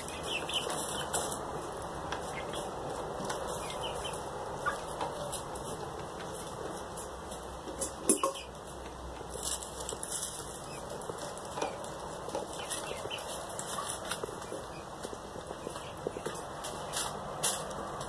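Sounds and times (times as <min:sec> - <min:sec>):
chickens clucking and peeping: 0:00.0 - 0:18.0.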